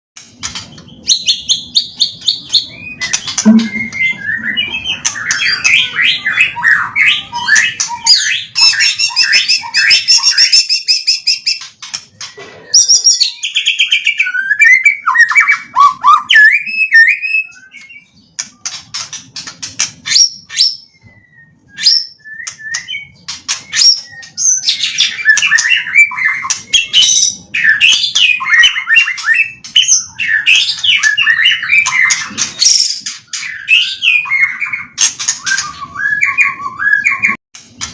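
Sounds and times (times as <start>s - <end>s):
bird singing: 0.3s - 37.4s.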